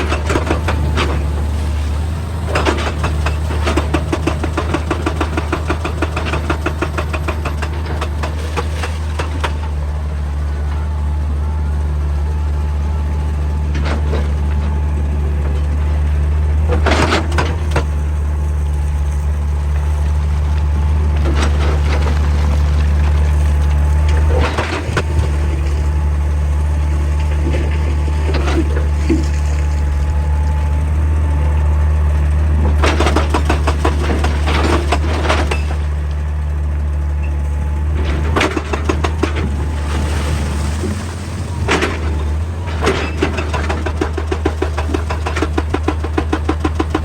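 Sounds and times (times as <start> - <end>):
knocks and rattles of rock and metal: 0.0 - 10.2, 13.5 - 30.4, 32.5 - 47.0
excavator diesel engine running: 0.0 - 47.0.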